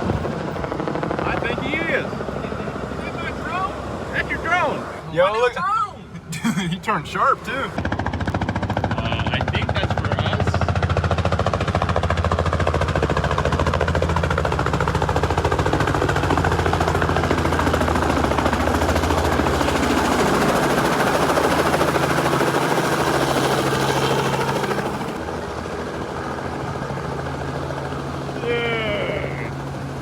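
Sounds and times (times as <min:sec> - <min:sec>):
helicopter engine drone: 0:00.0 - 0:30.0
helicopter rotor chopping: 0:00.0 - 0:30.0.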